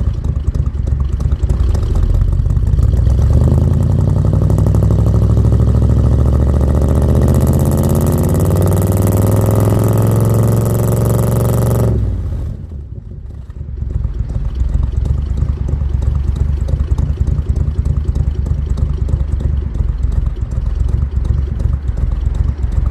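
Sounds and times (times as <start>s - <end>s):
van engine revving then idling: 0.0s - 22.9s.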